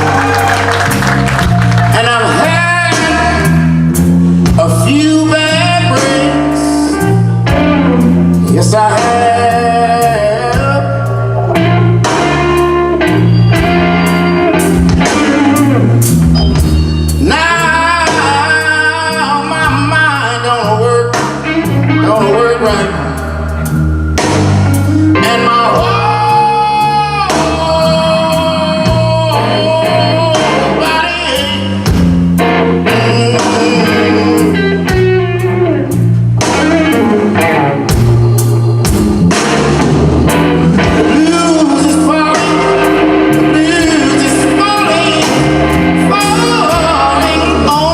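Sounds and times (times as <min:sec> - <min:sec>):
bass line: 0:00.0 - 0:47.9
drums: 0:00.0 - 0:47.9
wavering lead guitar lines: 0:00.0 - 0:47.9.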